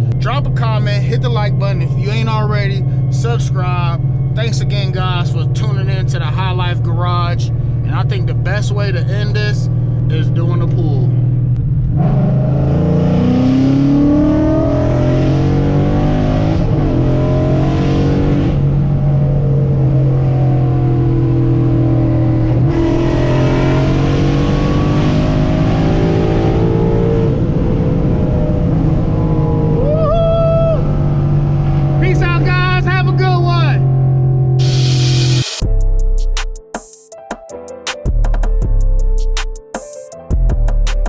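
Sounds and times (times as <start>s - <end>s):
car engine accelerating: 0.0s - 35.8s.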